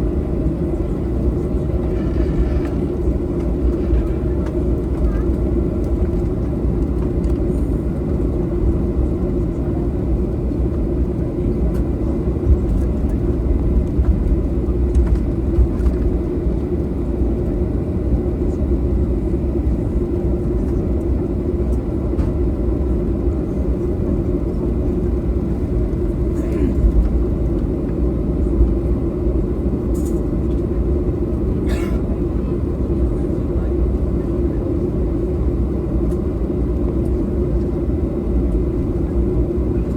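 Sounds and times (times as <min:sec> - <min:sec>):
jet cabin rumble and hum: 0:00.0 - 0:39.9.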